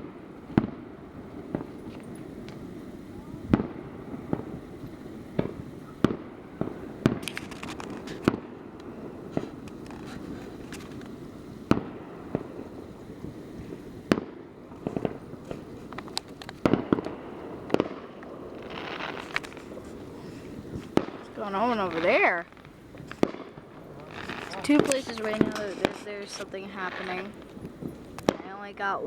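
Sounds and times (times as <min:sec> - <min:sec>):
fireworks bangs and pops: 0:00.0 - 0:29.0
low background noise: 0:00.0 - 0:29.0.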